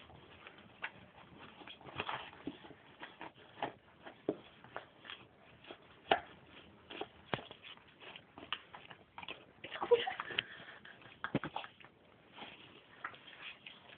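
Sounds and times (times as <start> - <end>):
dog rustling packaging: 0.0 - 13.9.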